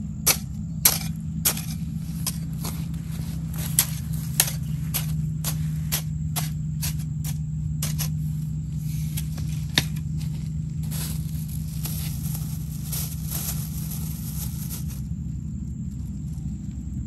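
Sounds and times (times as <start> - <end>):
hoe chopping soil: 0.0 - 15.0
soil rustling and crackling: 0.0 - 17.0
steady low hum: 0.0 - 17.0
hoe knocking: 0.2 - 14.0.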